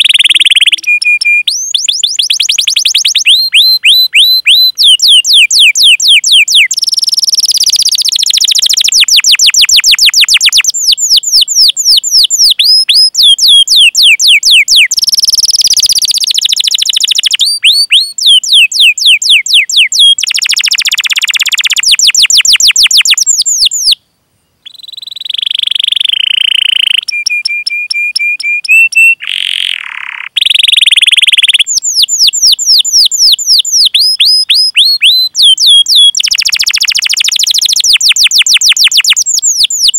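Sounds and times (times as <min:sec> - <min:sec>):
canary singing: 0:00.0 - 0:24.0, 0:24.6 - 0:39.9.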